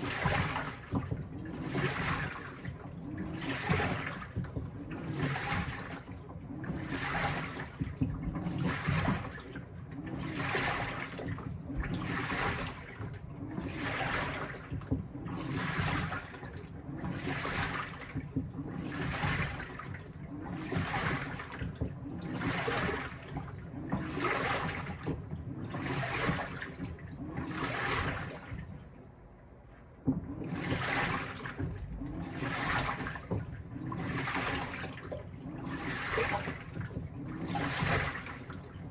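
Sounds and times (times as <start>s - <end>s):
washing machine agitator churning: 0.0s - 38.9s
washing machine water sloshing: 0.0s - 38.9s.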